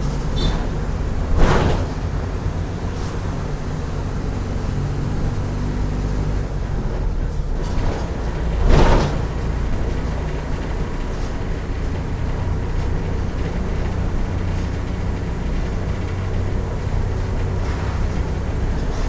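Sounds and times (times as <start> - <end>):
diesel bus engine running: 0.0 - 19.0.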